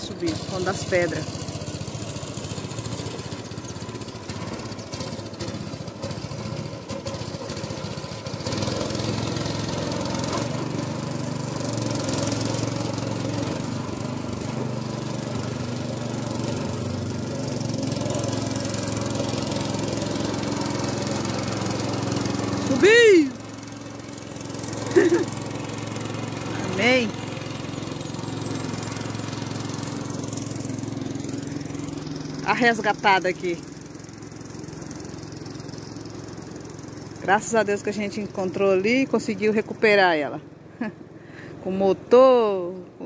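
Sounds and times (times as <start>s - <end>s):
outboard boat motor running: 0.0s - 43.0s.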